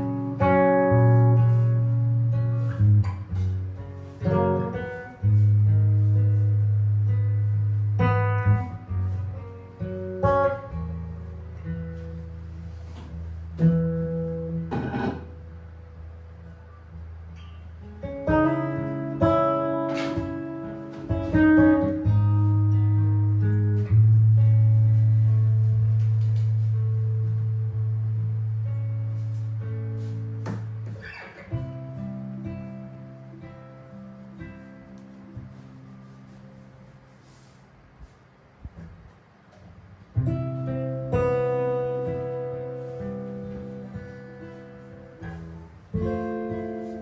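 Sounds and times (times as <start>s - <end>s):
jazz guitar chords: 0.0s - 47.0s.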